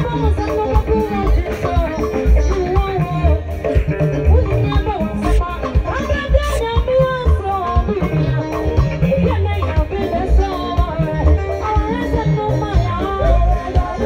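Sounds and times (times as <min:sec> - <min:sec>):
drum strokes: 0:00.0 - 0:11.9
live band playing gospel music: 0:00.0 - 0:14.0.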